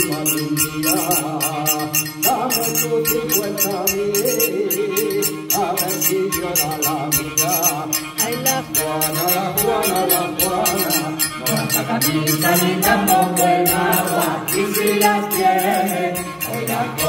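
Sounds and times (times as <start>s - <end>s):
hand percussion on household objects: 0.0s - 17.0s
several voices singing folk song: 0.0s - 17.0s.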